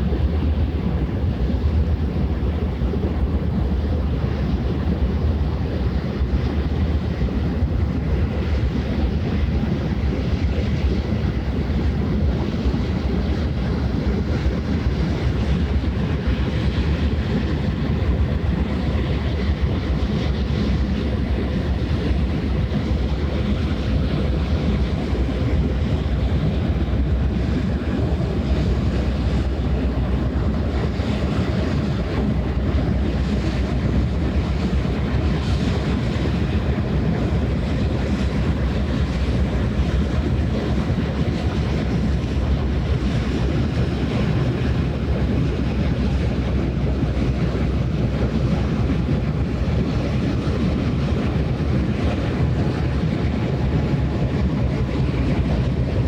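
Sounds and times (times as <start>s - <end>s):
ship engine rumble: 0.0s - 56.0s
wind buffeting microphone: 0.0s - 56.0s.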